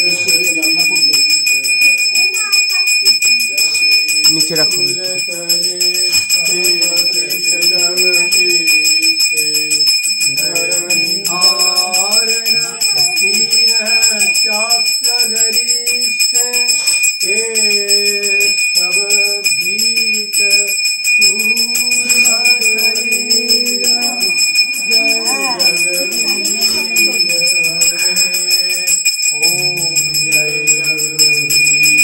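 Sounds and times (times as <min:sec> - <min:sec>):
person singing: 0:00.0 - 0:01.3, 0:03.4 - 0:32.0
handbell ringing rapidly: 0:00.0 - 0:32.0.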